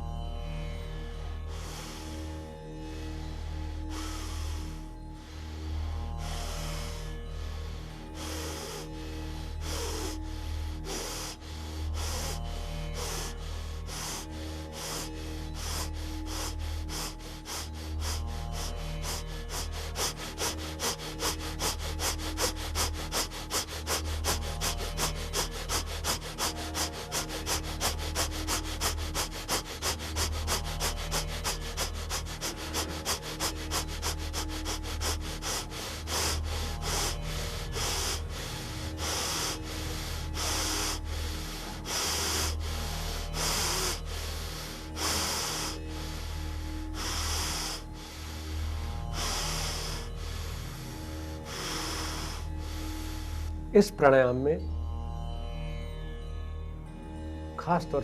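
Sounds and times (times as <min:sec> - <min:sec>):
forceful breathing through the nose: 0:00.0 - 0:53.7
low drone: 0:00.0 - 0:58.0
soft background music: 0:00.0 - 0:58.0.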